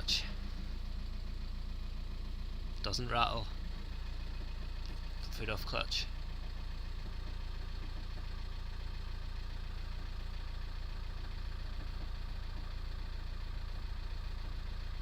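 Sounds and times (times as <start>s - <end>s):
diesel engine idling: 0.0s - 15.0s
engine knocking rattle: 0.0s - 15.0s.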